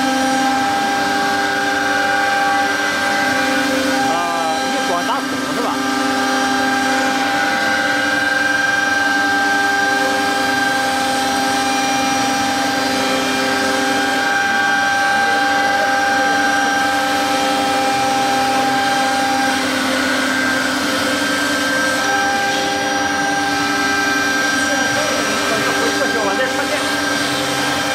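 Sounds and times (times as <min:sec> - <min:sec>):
router spindle whining: 0:00.0 - 0:27.9.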